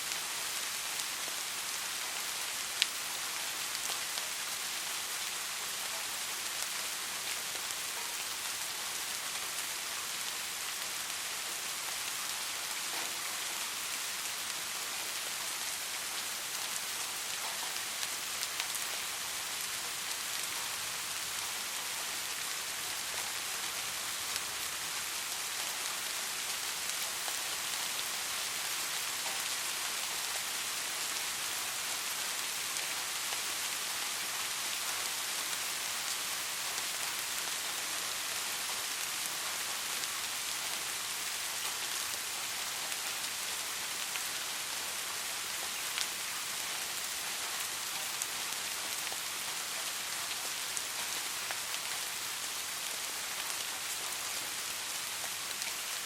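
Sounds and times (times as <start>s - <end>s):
soft rain hissing: 0.0s - 56.0s.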